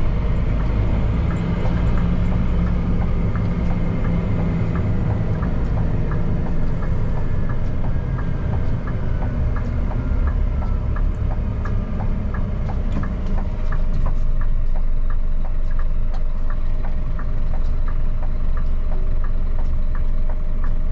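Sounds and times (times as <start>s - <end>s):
light even ticking: 0.0s - 20.9s
truck engine rumbling: 0.0s - 20.9s.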